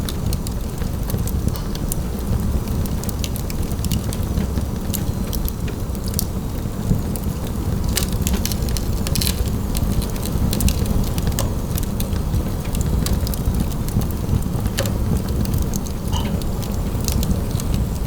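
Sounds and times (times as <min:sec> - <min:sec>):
fire crackles and pops: 0:00.0 - 0:18.0
low rumble of flame: 0:00.0 - 0:18.0.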